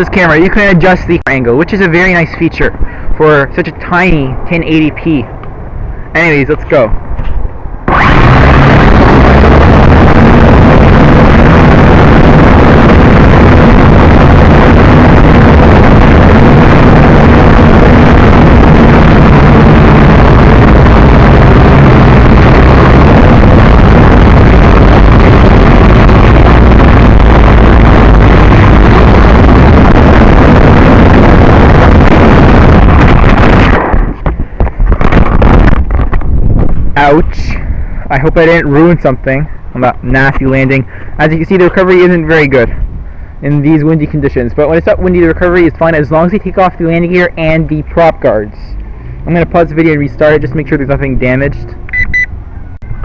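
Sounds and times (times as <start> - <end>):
wind buffeting microphone: 0.0 - 51.2.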